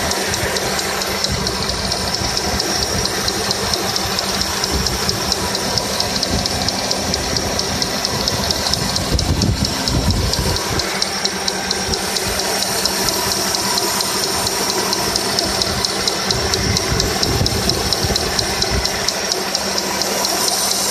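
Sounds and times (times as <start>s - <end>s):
heavy low rumble: 0.0s - 20.4s
car engine running: 0.0s - 20.9s
engine knocking tick: 0.0s - 20.9s.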